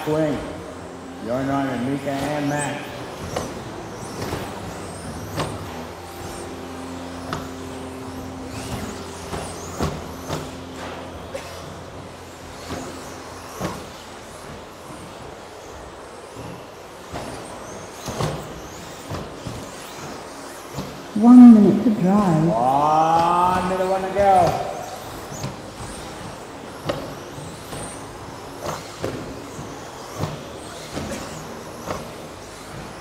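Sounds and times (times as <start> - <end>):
toy truck motors humming: 0.0 - 33.0.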